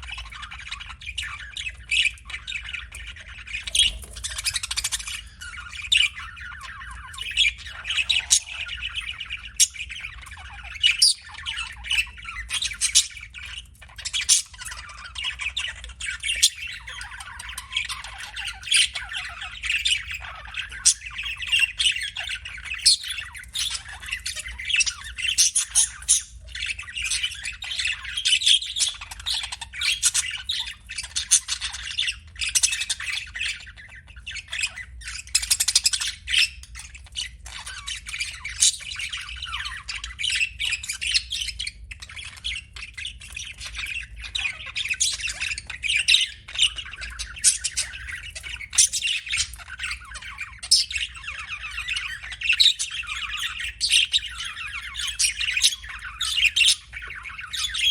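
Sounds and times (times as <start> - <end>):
budgerigars chattering: 0.0 - 57.9.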